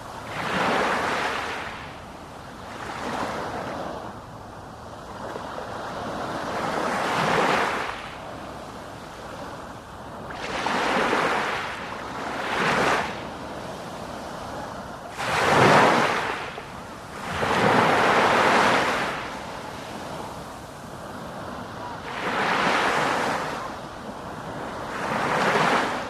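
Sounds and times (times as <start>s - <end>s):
sea waves breaking ashore: 0.0s - 26.0s.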